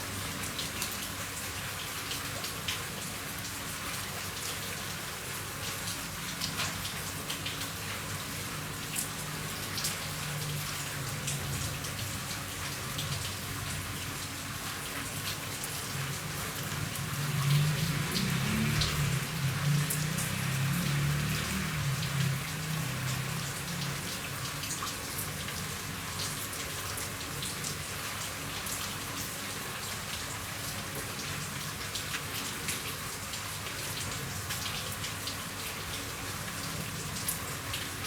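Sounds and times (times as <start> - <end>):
rain on a roof: 0.0 - 38.0.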